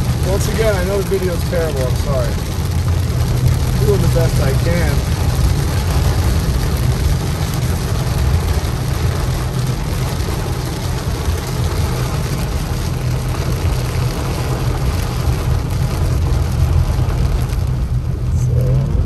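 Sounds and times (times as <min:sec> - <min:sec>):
car engine and tyres on wet road: 0:00.0 - 0:19.0
rain hissing on car: 0:00.0 - 0:19.0.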